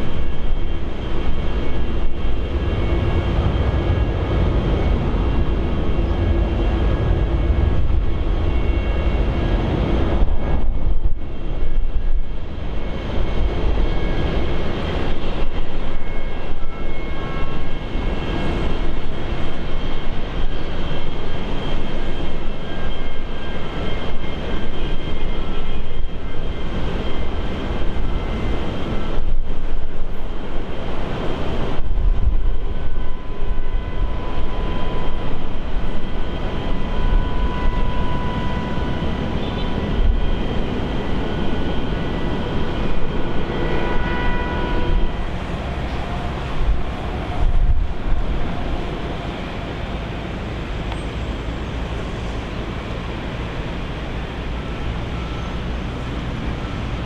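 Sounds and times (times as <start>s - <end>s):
jet engines running: 0.0s - 57.0s
whining engine tones: 0.0s - 57.0s.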